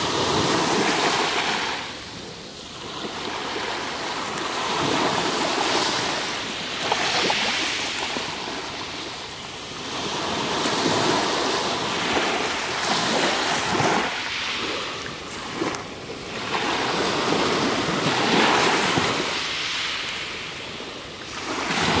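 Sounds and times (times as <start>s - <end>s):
small waves breaking: 0.0s - 22.0s.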